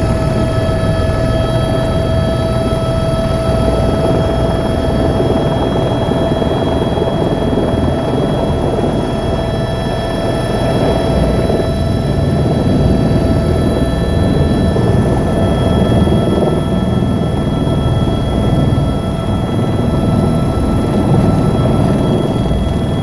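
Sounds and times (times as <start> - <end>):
helicopter rotor thrum: 0.0 - 23.0
turbine whine: 0.0 - 23.0.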